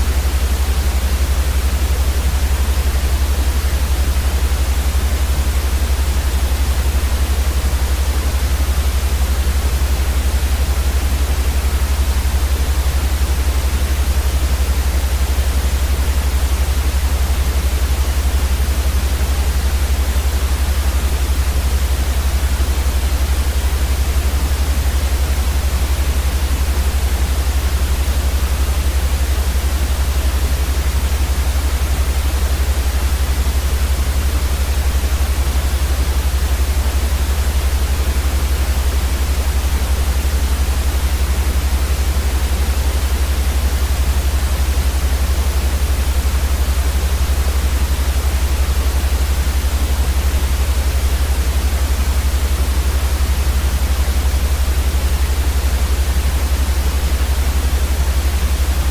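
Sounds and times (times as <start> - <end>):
white noise hiss with deep rumble: 0.0 - 58.9.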